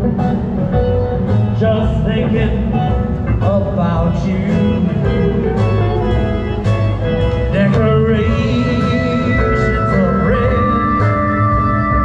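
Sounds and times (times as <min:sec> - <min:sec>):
guitar: 0:00.0 - 0:12.0
live band playing: 0:00.0 - 0:12.0.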